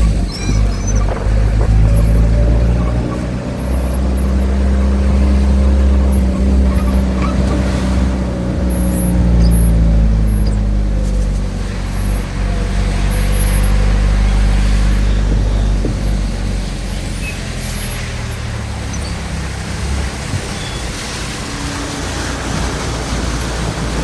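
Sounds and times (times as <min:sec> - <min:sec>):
car engine running at low speed: 0:00.0 - 0:24.0.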